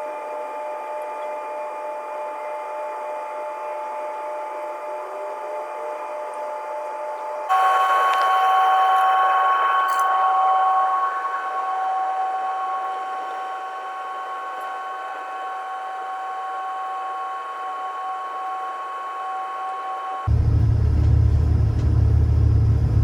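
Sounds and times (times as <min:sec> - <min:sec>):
airplane cabin whine: 0:00.1 - 0:23.0.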